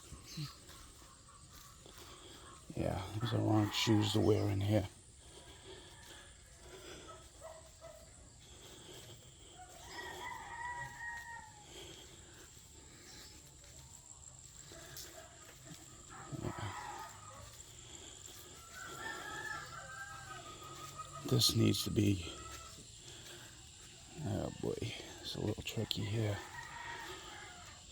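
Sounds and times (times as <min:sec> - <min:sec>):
rooster crowing: 0:00.0 - 0:08.1, 0:09.1 - 0:13.4, 0:14.3 - 0:23.0, 0:25.7 - 0:27.9.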